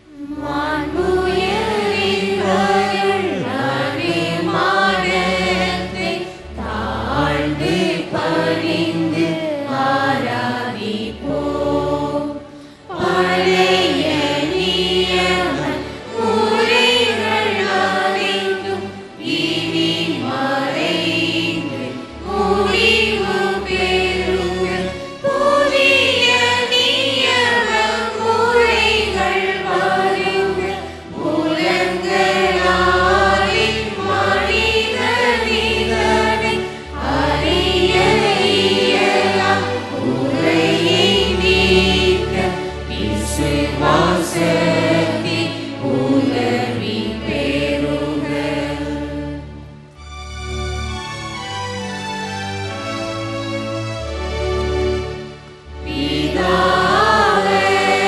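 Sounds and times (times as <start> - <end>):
choir singing a hymn: 0.0 - 49.8, 54.8 - 58.0
instrumental accompaniment: 0.0 - 58.0.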